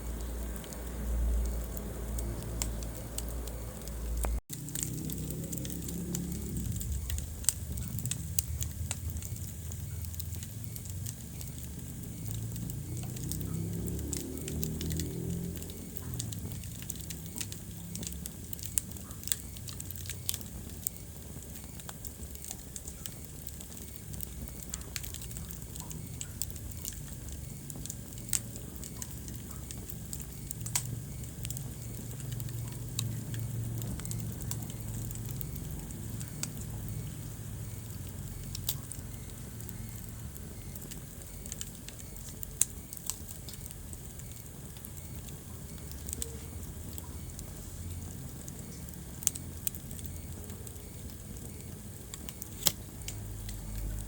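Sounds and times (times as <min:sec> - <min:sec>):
logs crackling and popping: 0:00.0 - 0:54.0
low rumble of flame: 0:00.0 - 0:54.0.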